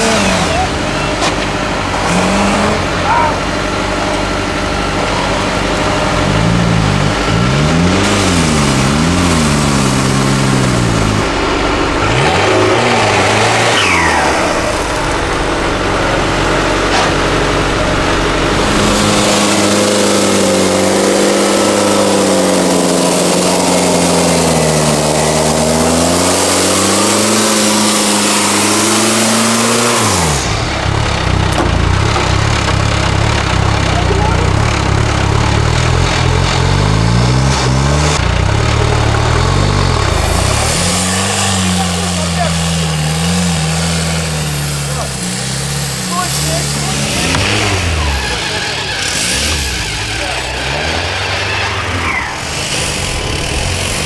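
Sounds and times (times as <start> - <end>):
loud rushing noise: 0.0 - 33.4, 36.8 - 54.0
off-road vehicle engine revving: 0.0 - 54.0.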